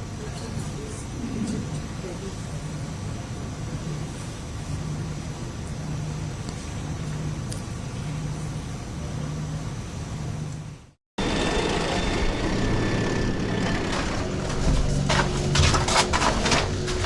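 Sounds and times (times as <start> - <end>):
low hum: 0.8 - 17.0.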